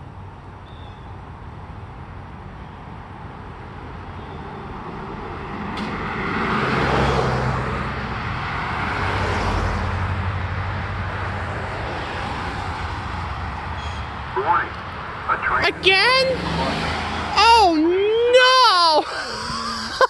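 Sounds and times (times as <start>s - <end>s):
vehicle passing: 3.1s - 20.0s.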